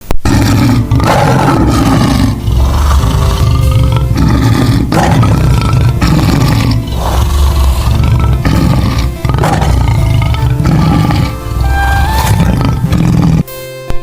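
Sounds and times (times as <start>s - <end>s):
lion roaring: 0.2s - 13.5s.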